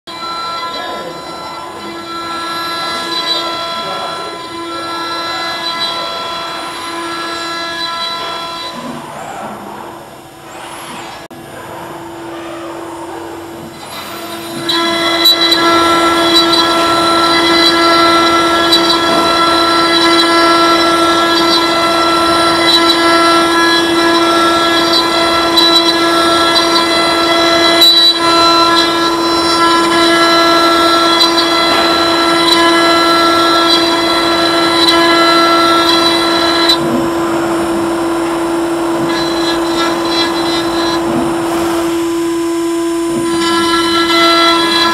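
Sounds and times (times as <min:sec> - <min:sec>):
router spindle whining: 0:00.1 - 0:44.9.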